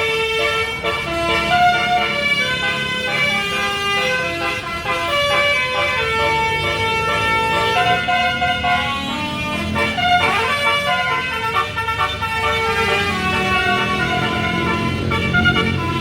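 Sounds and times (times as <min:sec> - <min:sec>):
bus engine rumble: 0:00.0 - 0:16.0
multi-tone bus horn melody: 0:00.0 - 0:16.0.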